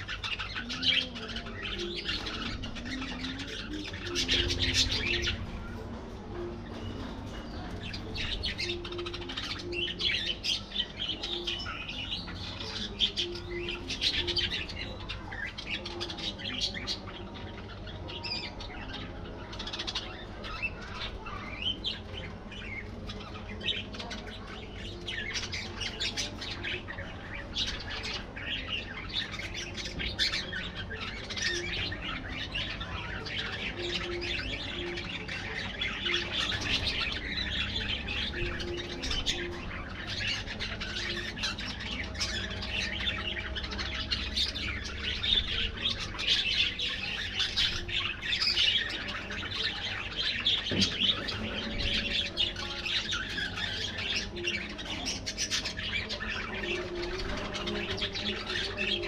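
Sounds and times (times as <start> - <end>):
budgerigars chattering: 6.6 - 59.0.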